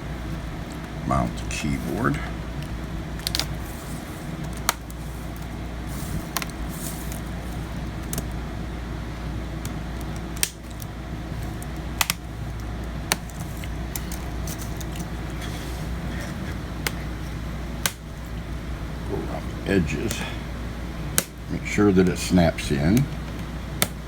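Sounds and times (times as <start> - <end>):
low hum: 0.0 - 23.8.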